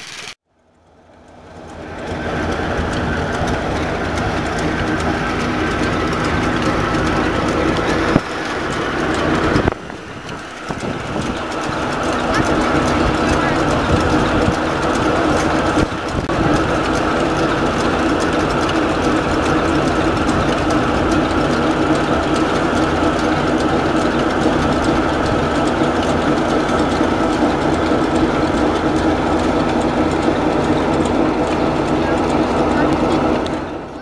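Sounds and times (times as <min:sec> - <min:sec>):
steam traction engine hum: 0:00.0 - 0:34.0
threshing machine clatter: 0:00.0 - 0:34.0.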